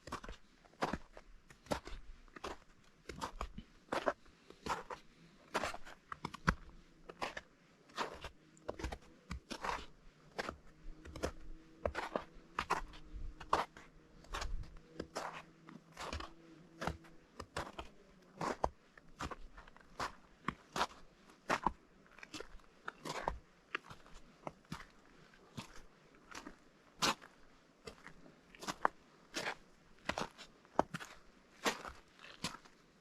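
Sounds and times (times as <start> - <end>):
footsteps crunching on snow: 1.7 - 32.8.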